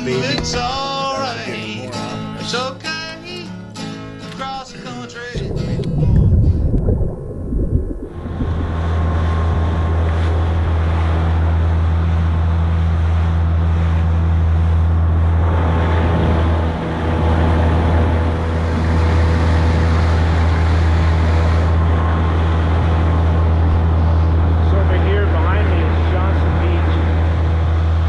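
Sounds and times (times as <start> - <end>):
outboard motor humming: 0.0 - 2.7, 5.4 - 28.0
water rushing past hull: 5.2 - 28.0
wind on microphone: 5.3 - 28.0.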